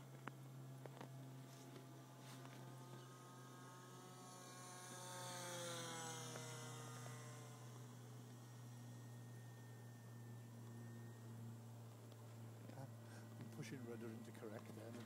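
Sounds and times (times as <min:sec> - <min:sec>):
model plane motor whining: 0:00.0 - 0:15.0
steady low hum: 0:00.0 - 0:15.0.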